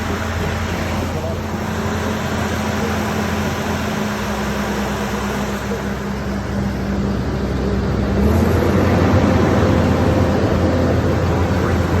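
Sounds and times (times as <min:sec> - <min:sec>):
diesel engine and hydraulic drone: 0:00.0 - 0:12.0.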